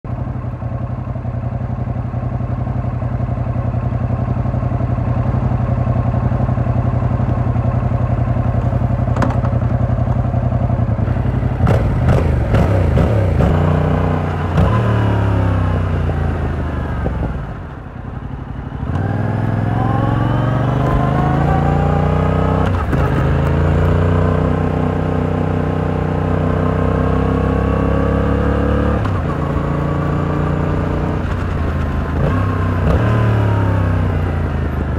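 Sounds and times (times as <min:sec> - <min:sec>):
motorcycle engine revving: 0:01.4 - 0:34.9.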